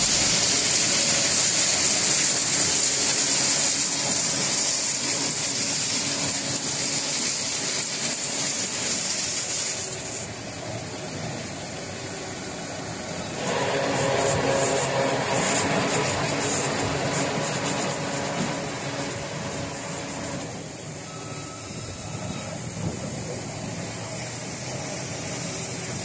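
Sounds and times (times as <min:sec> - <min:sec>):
engine-like hum with steady tones: 0:00.0 - 0:26.0
machinery with loud high hiss: 0:00.0 - 0:26.0.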